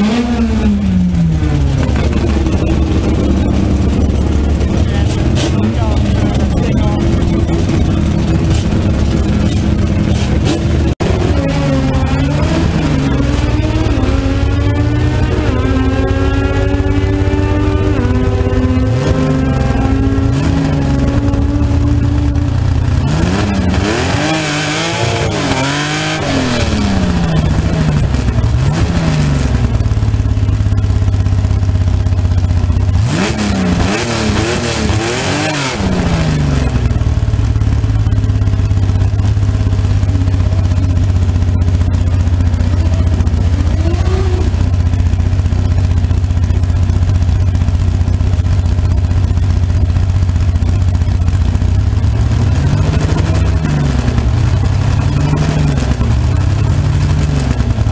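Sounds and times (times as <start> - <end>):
dragster engine idling and revving: 0.0 - 57.9.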